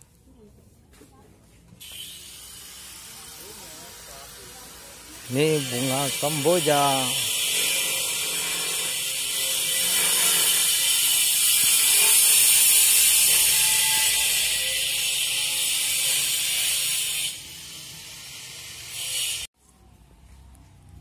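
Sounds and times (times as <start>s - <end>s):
high-pitched rasping drone: 1.8s - 19.5s.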